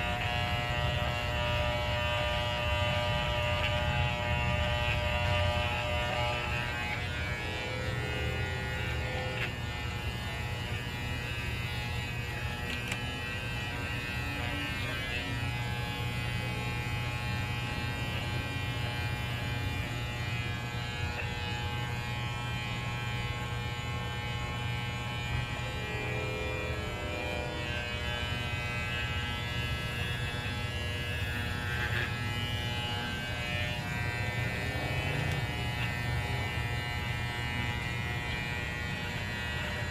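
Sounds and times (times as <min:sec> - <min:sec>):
electric hair clippers running: 0:00.0 - 0:39.9.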